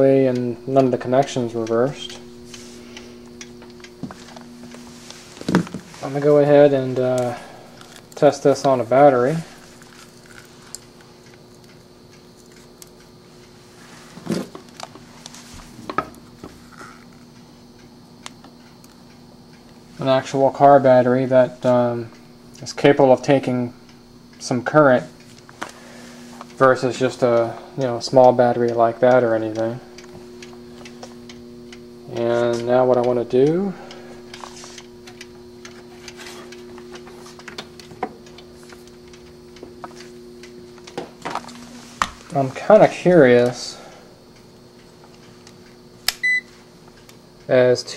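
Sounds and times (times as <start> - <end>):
mechanical timer ticking: 0.0 - 13.6, 17.3 - 47.6
faint steady hum: 0.0 - 47.9.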